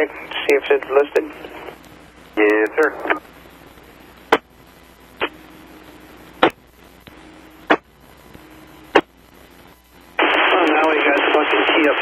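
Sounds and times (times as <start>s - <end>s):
radio squelch static bursts: 0.0s - 12.0s
steady low hiss: 0.0s - 12.0s.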